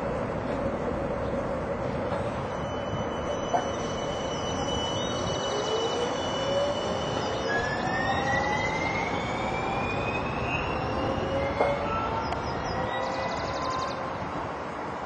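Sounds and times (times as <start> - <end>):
light-rail train running: 0.0 - 15.0.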